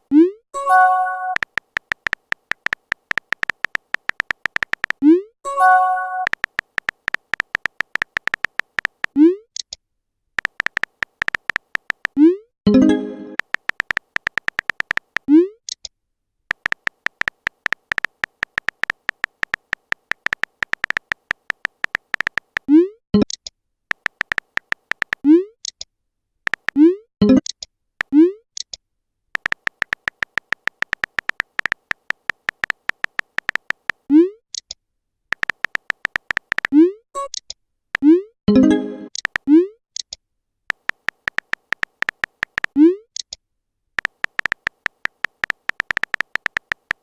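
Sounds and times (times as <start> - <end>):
electronic typing clicks: 0.1 - 9.7, 10.4 - 15.4, 16.5 - 25.8, 26.5 - 28.7, 29.4 - 34.7, 35.3 - 43.4, 44.0 - 47.0.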